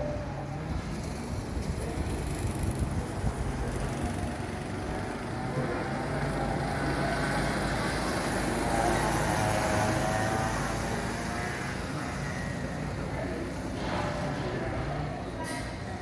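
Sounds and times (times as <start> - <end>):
go-kart engine running: 0.8 - 14.4.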